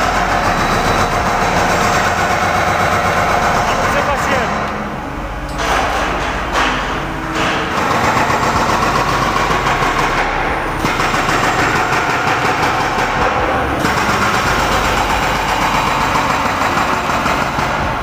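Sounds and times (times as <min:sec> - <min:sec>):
excavator engine running: 0:00.0 - 0:18.0
hydraulic rock breaker hammering: 0:00.0 - 0:18.0.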